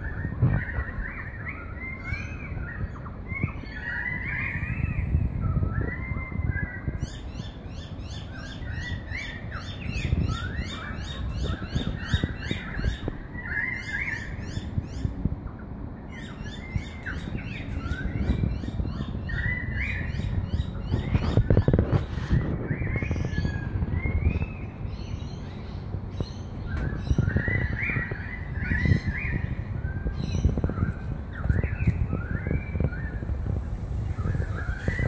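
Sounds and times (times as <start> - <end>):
whistled bird calls: 0.0 - 15.1, 16.1 - 35.0.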